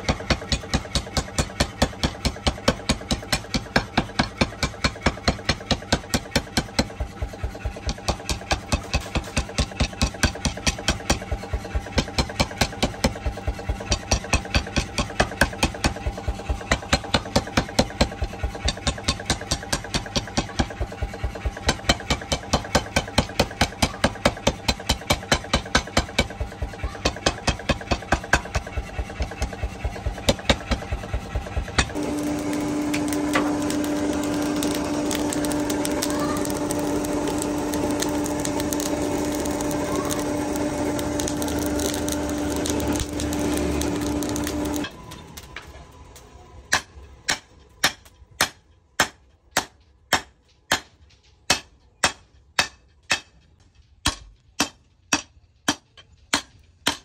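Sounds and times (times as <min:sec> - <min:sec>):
power hammer pounding steel: 0:00.0 - 0:45.8, 0:46.7 - 0:57.0
forge fire and blower roar: 0:00.0 - 0:57.0.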